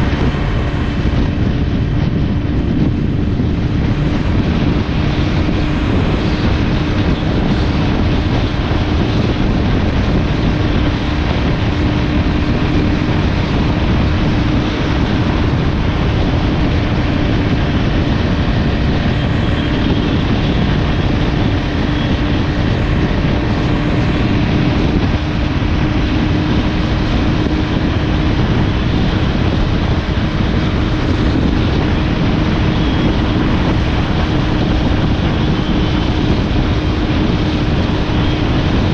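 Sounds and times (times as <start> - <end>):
motorcycle engine drone: 0.0 - 38.9
wind noise on microphone: 0.0 - 38.9.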